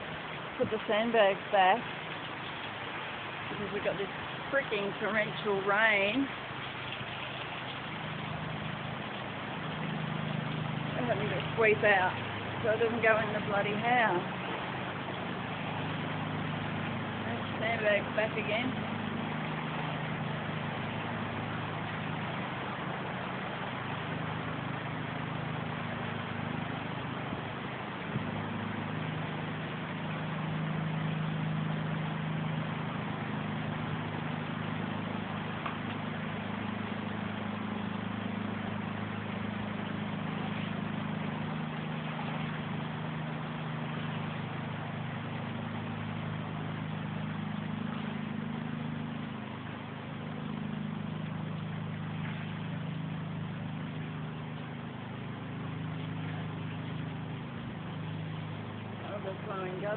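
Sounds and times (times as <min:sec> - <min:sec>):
torrential rain pouring: 0:00.0 - 0:59.9.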